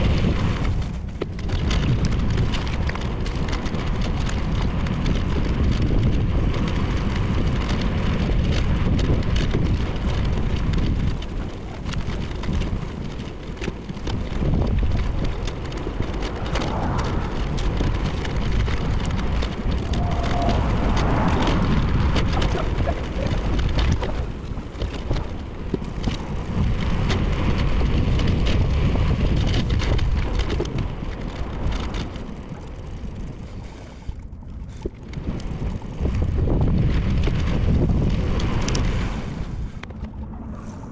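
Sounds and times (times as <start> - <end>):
road noise: 0.0 - 40.9
rushing wind: 0.0 - 40.9.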